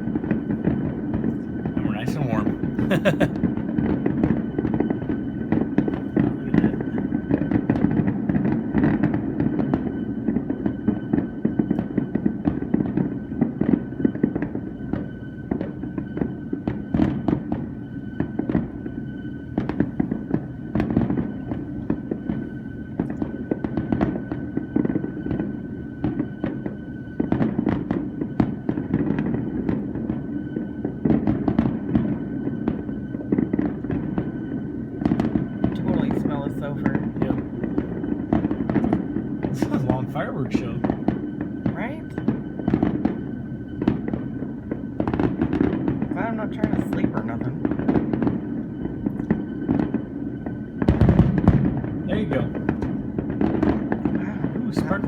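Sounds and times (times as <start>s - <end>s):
fireworks booms and pops: 0.0s - 55.0s.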